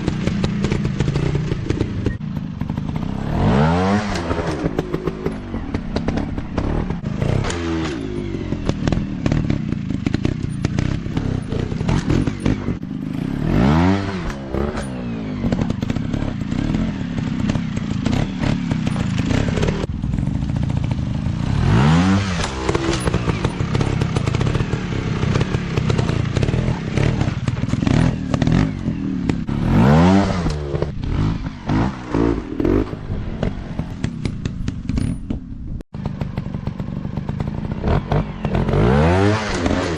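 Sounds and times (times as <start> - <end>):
engine clattering and knocks: 0.0 - 13.3, 14.2 - 29.6, 32.6 - 39.9
dirt bike engine revving: 0.0 - 35.4, 36.0 - 39.9.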